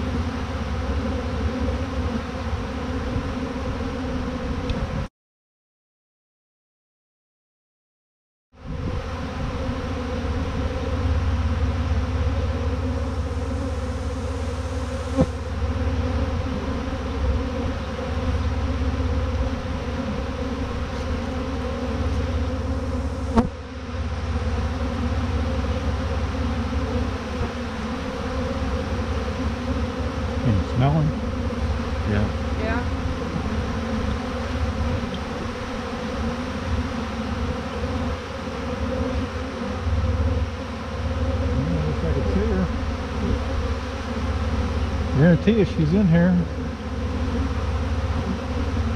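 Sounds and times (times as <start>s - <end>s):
honeybee swarm buzzing: 0.0s - 5.1s, 8.6s - 48.9s
single bees passing close: 0.0s - 5.1s, 8.6s - 48.9s.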